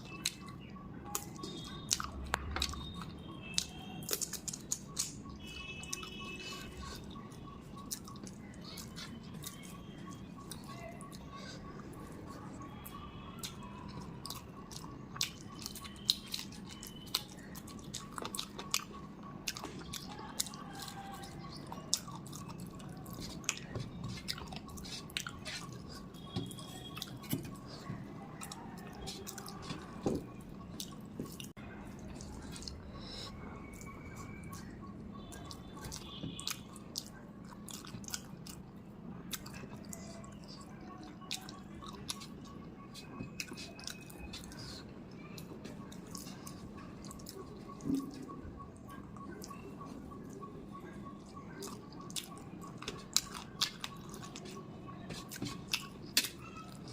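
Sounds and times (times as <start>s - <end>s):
person chewing and eating: 0.0s - 50.4s, 51.2s - 56.9s.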